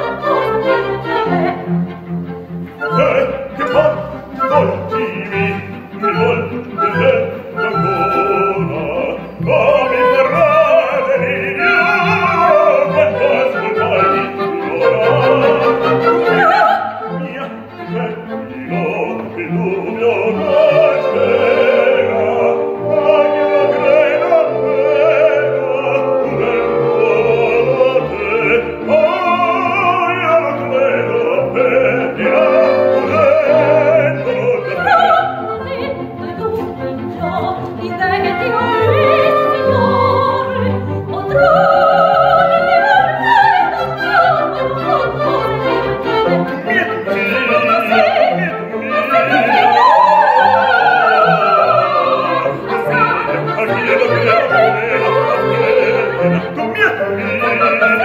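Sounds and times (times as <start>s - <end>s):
operatic duet singing: 0.0s - 58.0s
orchestra with bowed strings: 0.0s - 58.0s.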